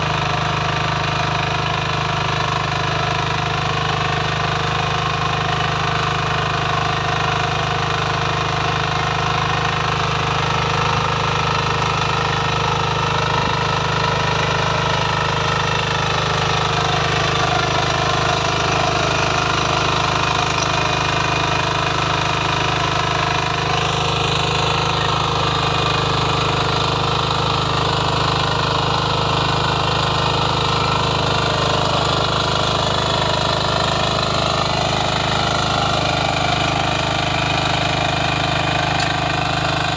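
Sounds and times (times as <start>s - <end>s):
power weeder engine running: 0.0s - 39.9s.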